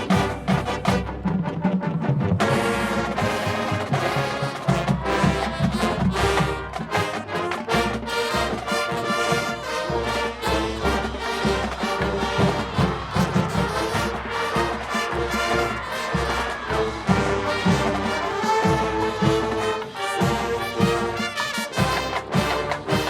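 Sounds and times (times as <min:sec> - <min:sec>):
brass chords: 0:00.0 - 0:23.0
drum-line beat: 0:00.0 - 0:23.0.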